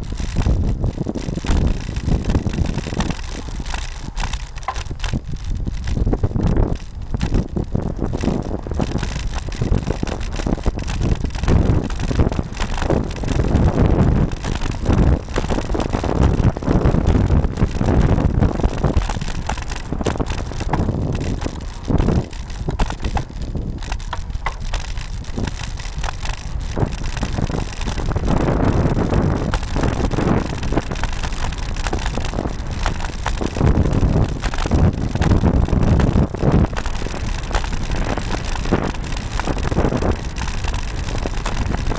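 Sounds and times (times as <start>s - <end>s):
road and tyre noise: 0.0s - 41.9s
wind buffeting microphone: 0.0s - 41.9s.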